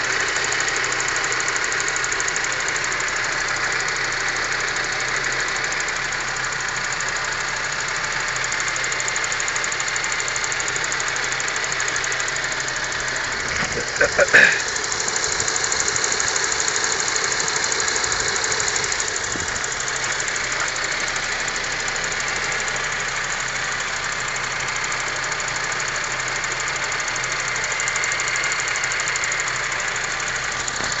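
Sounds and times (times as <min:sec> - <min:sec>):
car engine running: 0:00.0 - 0:31.0
rapid knocking inside engine: 0:00.1 - 0:31.0.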